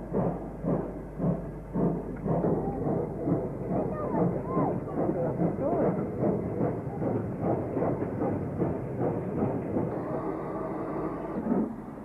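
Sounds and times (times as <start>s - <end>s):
locomotive rumble: 0.0s - 12.0s
steam locomotive exhaust beats: 0.0s - 12.0s.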